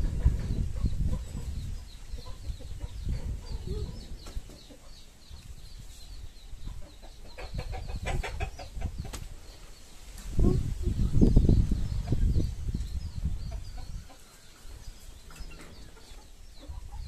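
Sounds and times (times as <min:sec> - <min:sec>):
birds chirping and clucking: 0:00.0 - 0:17.0.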